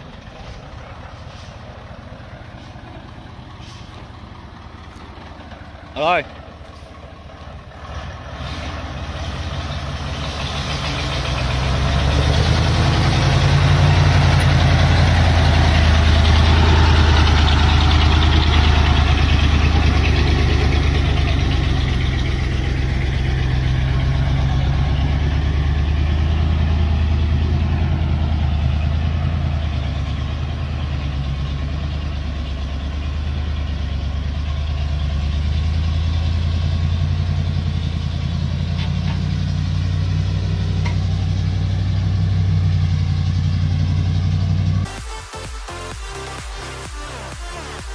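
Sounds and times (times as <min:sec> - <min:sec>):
diesel truck engine droning: 0:00.0 - 0:47.9.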